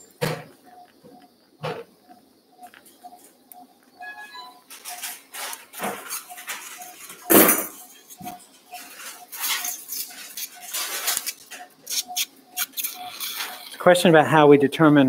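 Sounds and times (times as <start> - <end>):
monitor beeping: 0.0 - 14.9.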